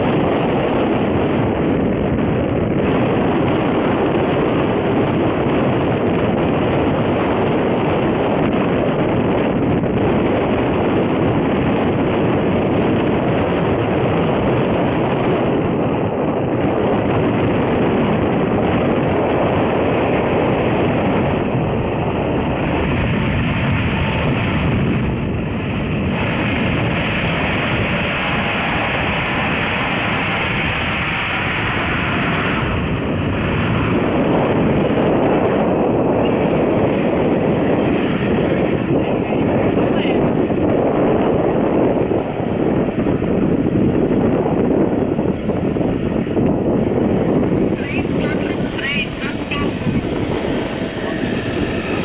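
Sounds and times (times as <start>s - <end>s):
jet engines rumbling: 0.0s - 52.0s
wind on microphone: 0.0s - 52.0s.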